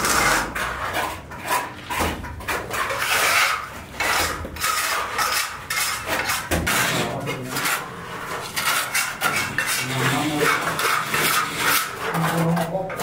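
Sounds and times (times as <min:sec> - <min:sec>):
trowel scraping mortar: 0:00.0 - 0:13.0.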